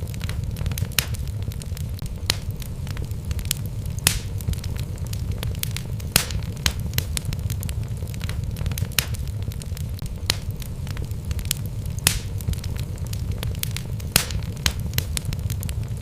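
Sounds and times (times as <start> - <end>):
logs burning in a fireplace: 0.0 - 16.0.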